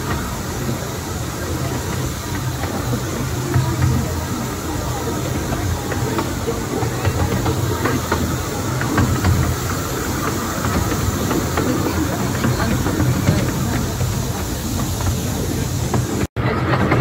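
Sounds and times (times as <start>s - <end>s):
train rumbling: 0.0s - 17.0s
wheels clicking on rails: 0.0s - 17.0s.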